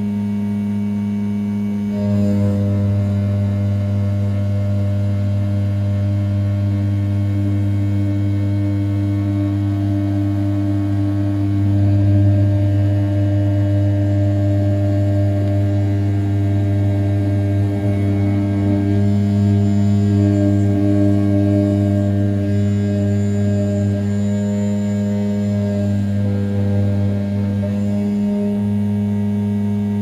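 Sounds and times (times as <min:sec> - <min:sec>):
mill spindle cutting metal: 0:01.9 - 0:30.0.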